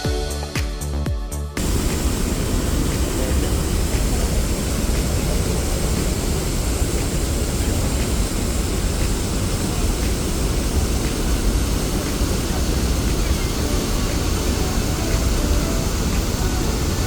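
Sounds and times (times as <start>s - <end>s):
waterfall roaring: 1.6s - 17.0s.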